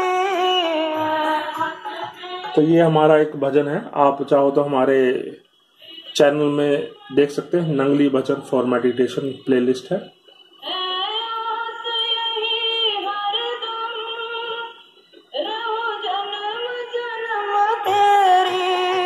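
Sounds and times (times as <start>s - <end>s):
high voice singing devotional song: 0.0s - 19.0s.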